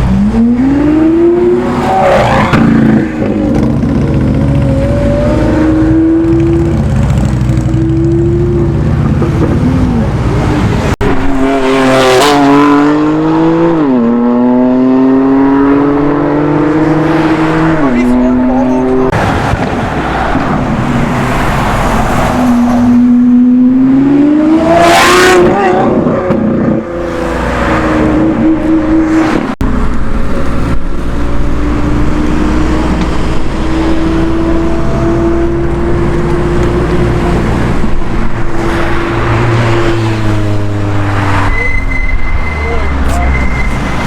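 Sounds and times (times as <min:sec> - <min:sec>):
sports car engines accelerating: 0:00.0 - 0:41.7.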